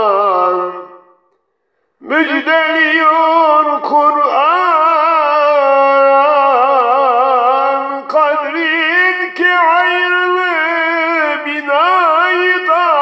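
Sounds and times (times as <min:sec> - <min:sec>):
man singing hymn: 0:00.0 - 0:01.2, 0:02.0 - 0:13.0.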